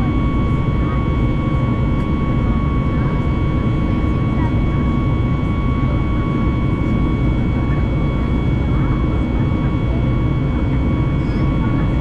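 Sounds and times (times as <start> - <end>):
jet engine high whine: 0.0 - 12.0
jet engine low rumble: 0.0 - 12.0.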